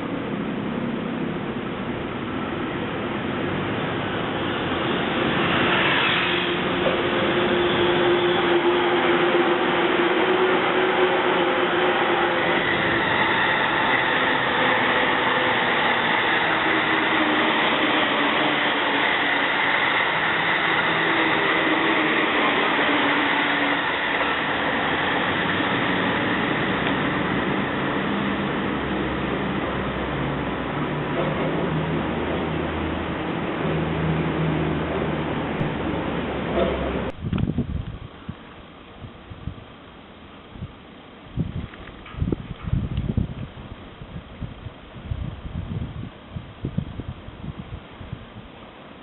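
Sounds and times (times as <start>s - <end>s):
train whine: 0.0s - 40.6s
train rolling on rails: 0.0s - 49.0s.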